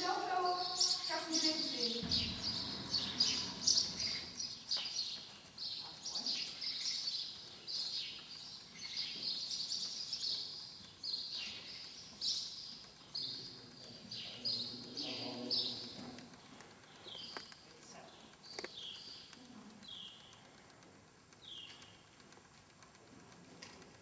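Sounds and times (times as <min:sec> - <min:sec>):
small birds chirping: 0:00.0 - 0:22.3.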